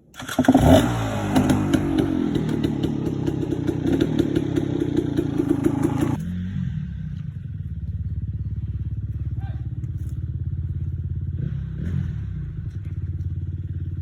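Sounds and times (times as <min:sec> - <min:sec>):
dirt bike engine: 0:00.0 - 0:14.0.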